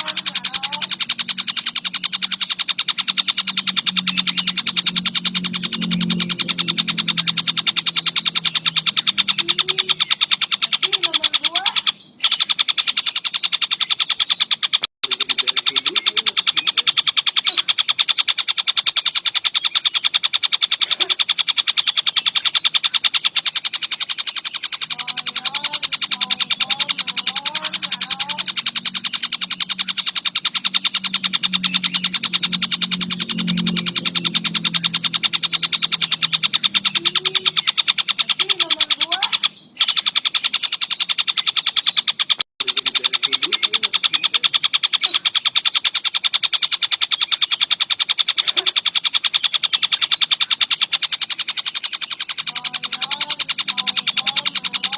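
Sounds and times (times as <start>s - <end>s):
kingfisher chattering trill: 0.0s - 54.9s.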